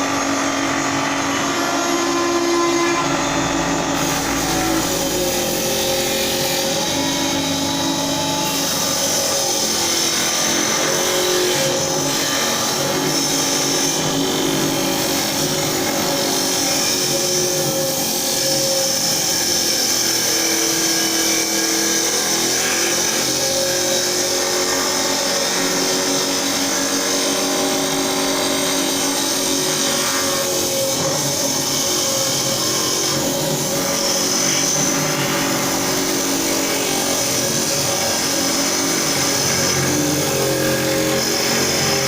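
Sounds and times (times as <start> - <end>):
chisel cutting spinning wood: 0.0 - 42.0
wood lathe humming: 0.0 - 42.0.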